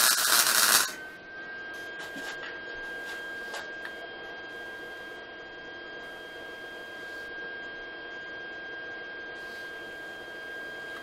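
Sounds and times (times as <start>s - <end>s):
faint hum: 0.0s - 11.0s
high-pitched electrical whine: 0.0s - 11.0s.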